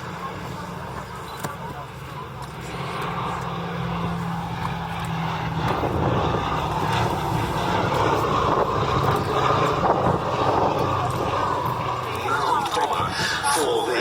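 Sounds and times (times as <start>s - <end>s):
aircraft engines droning: 0.0s - 14.0s.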